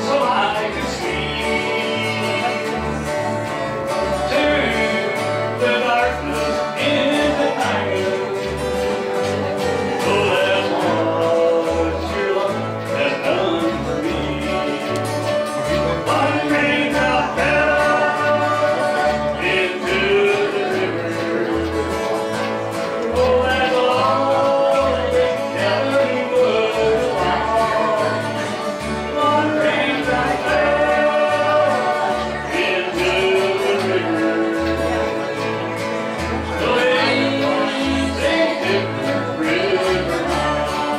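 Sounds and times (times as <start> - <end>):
acoustic guitar strumming: 0.0 - 40.9
person singing: 0.0 - 40.9
upright bass plucking: 0.0 - 40.9.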